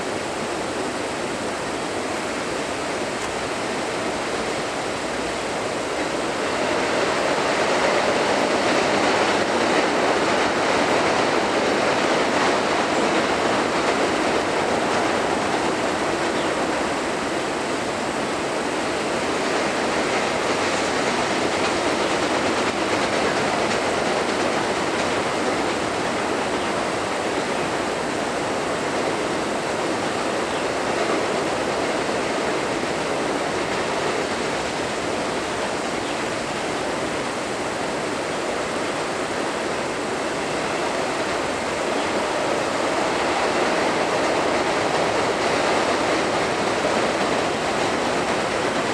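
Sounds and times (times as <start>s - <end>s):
freight train wheels rumbling on rail: 0.0s - 48.9s.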